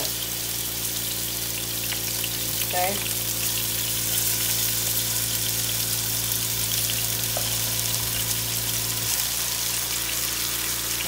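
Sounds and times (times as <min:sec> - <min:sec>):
low steady hum: 0:00.0 - 0:11.0
meat sizzling in frying pan: 0:00.0 - 0:11.0.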